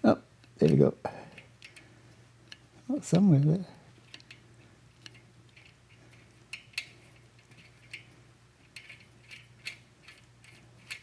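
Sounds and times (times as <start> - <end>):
faint steady hum: 0.0 - 11.0
metallic clicks of engine parts: 0.4 - 11.0.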